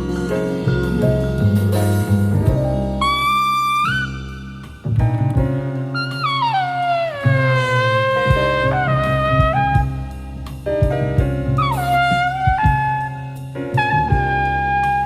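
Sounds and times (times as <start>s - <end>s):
bass: 0.0s - 15.0s
drums: 0.0s - 15.0s
jazz trumpet: 0.0s - 15.0s.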